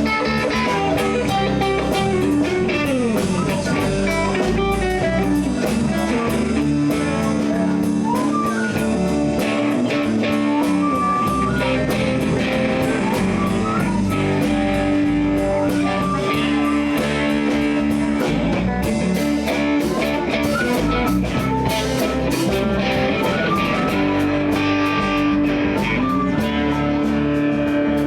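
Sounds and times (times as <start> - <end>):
bass: 0.0 - 28.0
drum kit beat: 0.0 - 28.0
electric guitar: 0.0 - 28.0.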